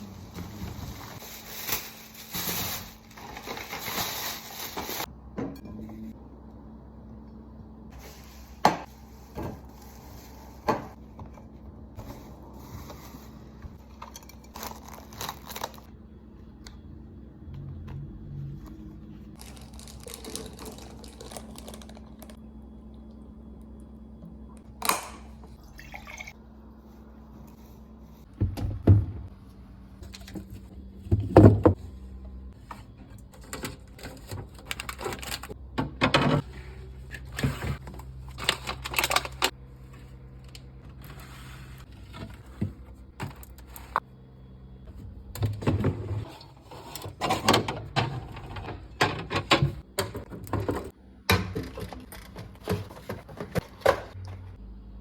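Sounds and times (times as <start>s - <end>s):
fridge low hum: 0.0s - 55.0s.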